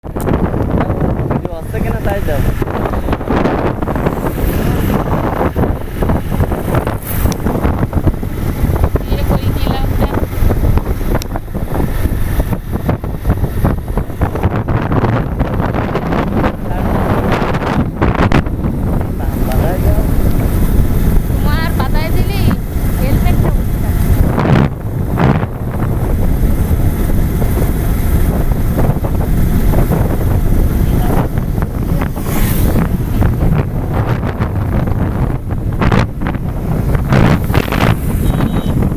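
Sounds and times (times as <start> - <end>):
wind buffeting microphone: 0.0 - 38.9
motorcycle engine running: 0.1 - 38.9.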